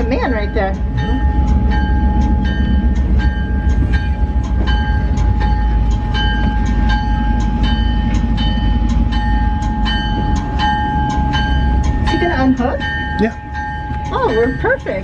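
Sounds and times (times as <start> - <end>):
locomotive rumbling: 0.0 - 15.0
metallic ringing strikes: 0.0 - 15.0
steady high tone: 0.0 - 15.0.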